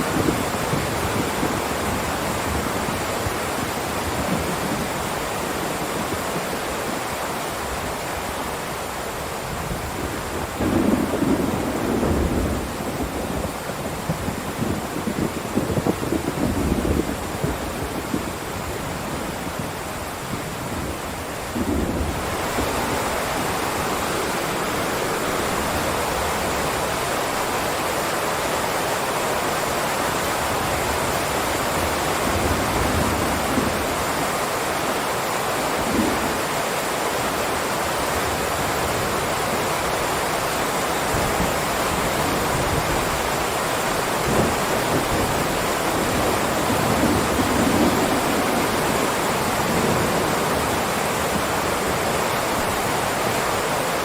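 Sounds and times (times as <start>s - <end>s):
heavy rain downpour: 0.0s - 54.0s.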